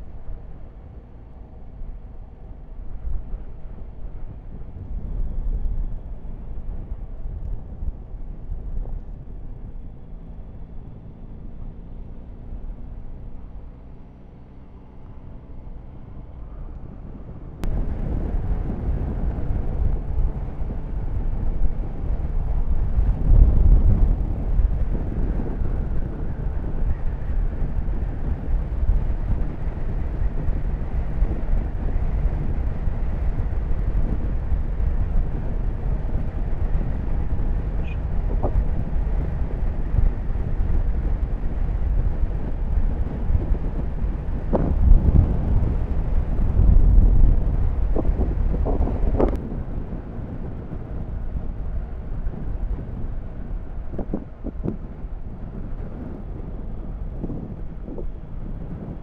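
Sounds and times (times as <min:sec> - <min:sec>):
wind rushing over microphone: 0:00.0 - 0:59.0
motorcycle engine running: 0:00.1 - 0:59.0.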